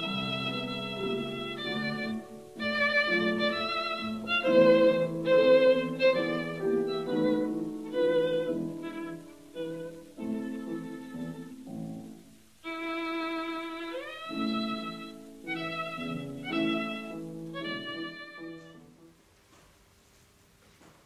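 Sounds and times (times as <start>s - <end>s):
bowed strings with violin: 0.0s - 19.0s.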